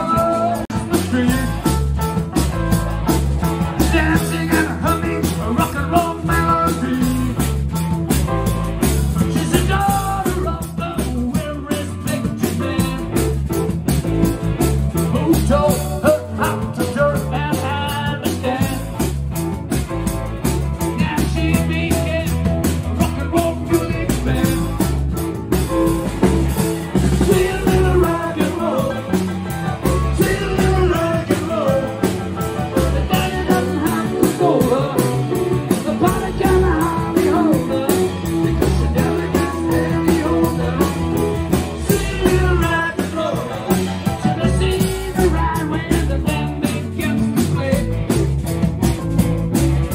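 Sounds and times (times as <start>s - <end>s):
bass guitar: 0.0s - 49.9s
drum kit beat: 0.0s - 49.9s
electric guitar: 0.0s - 49.9s.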